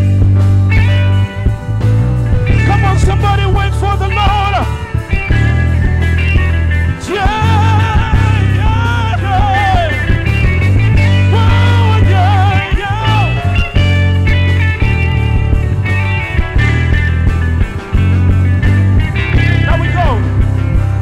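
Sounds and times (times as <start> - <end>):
live gospel band playing: 0.0 - 21.0
vibrato lead melody: 0.0 - 21.0.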